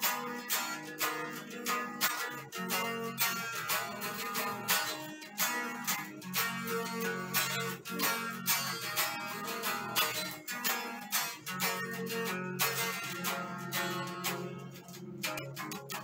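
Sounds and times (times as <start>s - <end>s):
electric guitar chords strummed: 0.0s - 16.0s.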